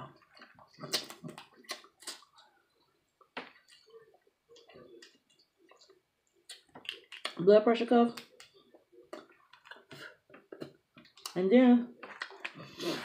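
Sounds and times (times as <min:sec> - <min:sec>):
wet eating sounds: 0:00.0 - 0:13.0
lip smacks: 0:00.2 - 0:02.5, 0:03.2 - 0:07.4, 0:08.1 - 0:11.4, 0:12.0 - 0:13.0.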